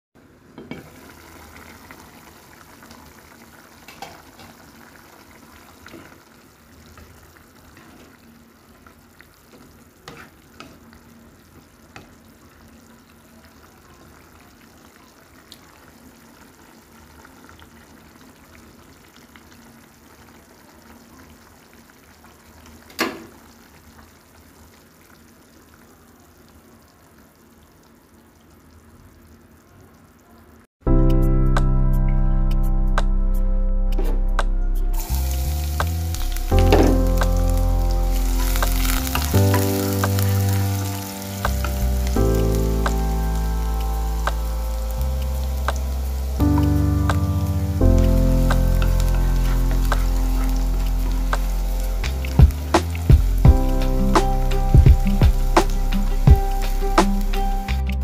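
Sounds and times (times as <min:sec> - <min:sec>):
soup simmering and bubbling: 0:00.2 - 0:30.6, 0:34.9 - 0:57.8.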